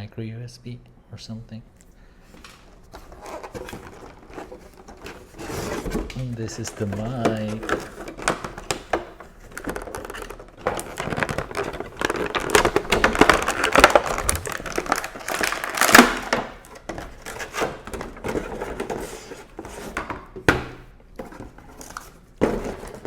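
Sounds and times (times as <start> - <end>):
packaging crinkling and rustling: 2.3 - 23.0.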